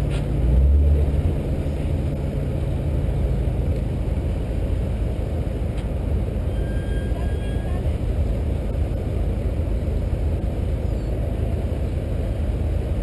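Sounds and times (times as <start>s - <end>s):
car engine idling: 1.0s - 13.0s.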